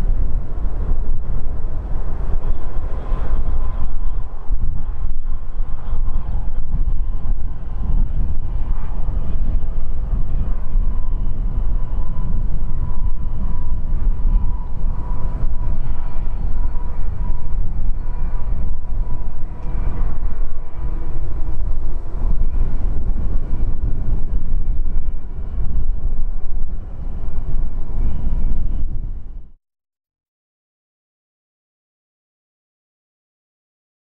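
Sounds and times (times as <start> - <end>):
distant jet roar: 0.0 - 29.4
faint steady whine: 0.0 - 29.6
wind on microphone: 0.0 - 29.6.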